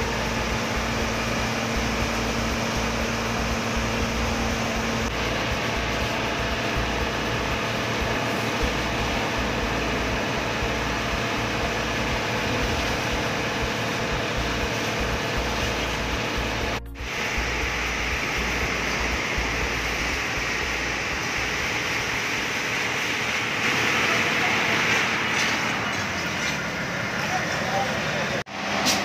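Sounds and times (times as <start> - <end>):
fire engine pumping water: 0.0 - 29.0.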